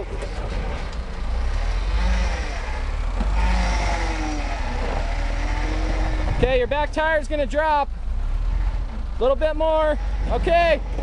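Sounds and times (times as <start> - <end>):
truck engine pulling at low revs: 0.0 - 11.0.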